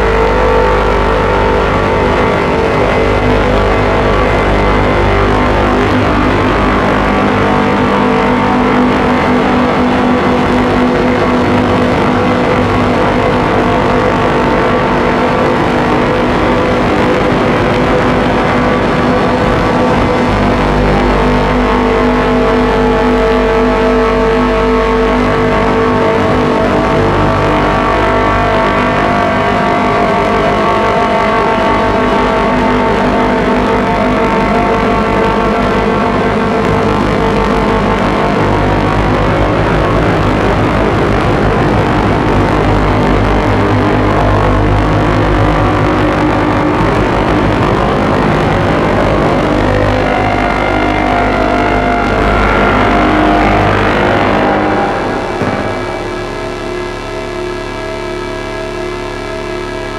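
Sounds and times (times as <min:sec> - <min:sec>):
dark drone with gritty noise: 0:00.0 - 0:59.9.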